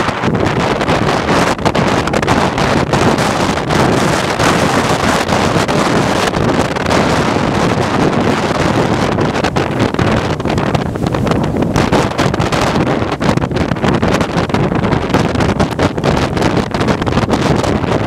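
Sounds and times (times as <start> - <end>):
waves breaking: 0.0 - 18.0
wind buffeting microphone: 0.0 - 18.0.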